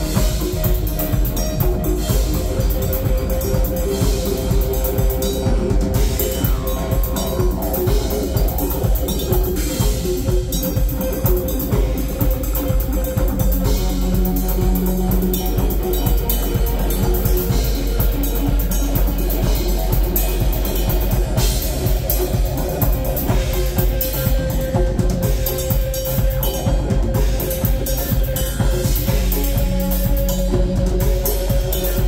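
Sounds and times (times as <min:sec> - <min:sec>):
drum kit snare and bass drum: 0:00.0 - 0:32.0
live rock band playing: 0:00.0 - 0:32.0.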